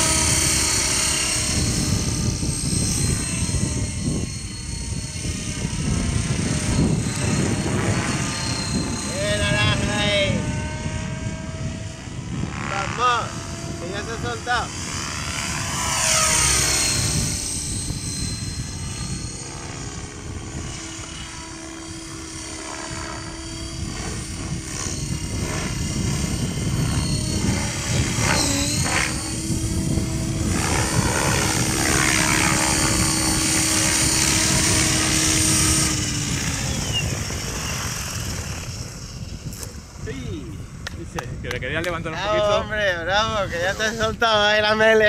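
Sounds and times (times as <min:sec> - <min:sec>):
model helicopter whine: 0:00.0 - 0:45.0.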